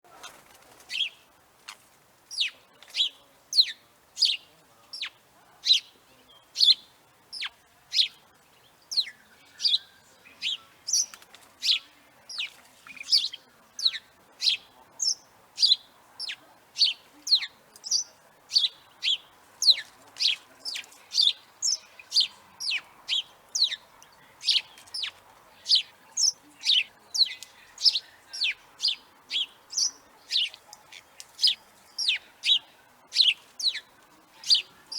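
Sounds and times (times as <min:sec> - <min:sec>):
sparrow chirping: 0:00.1 - 0:34.9.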